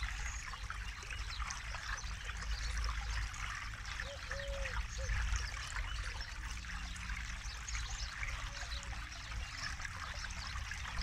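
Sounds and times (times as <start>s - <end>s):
trickling splashy babble: 0.0s - 11.0s.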